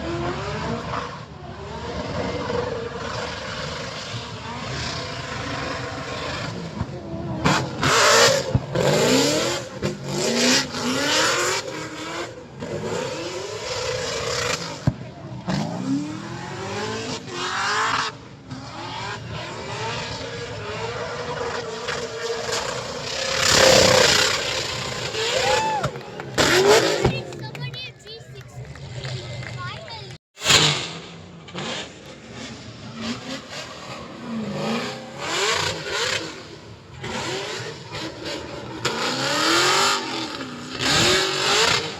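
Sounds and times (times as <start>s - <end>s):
car engines revving and accelerating: 0.0s - 41.9s.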